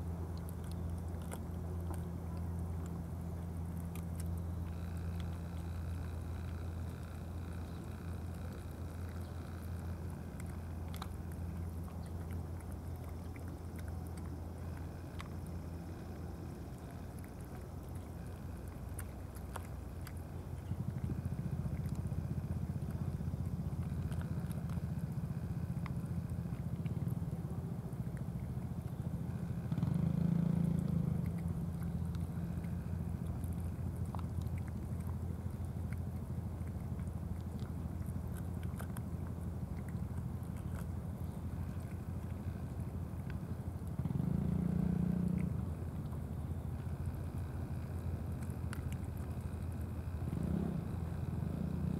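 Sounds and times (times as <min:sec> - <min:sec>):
low mechanical hum: 0:00.0 - 0:51.9
cats chewing wet food: 0:00.2 - 0:51.9.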